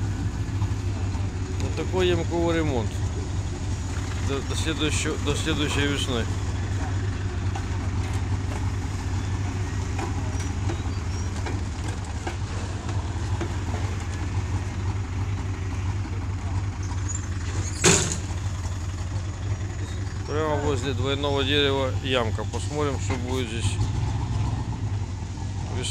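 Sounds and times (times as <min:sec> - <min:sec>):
vehicle engine rumbling: 0:00.0 - 0:25.9.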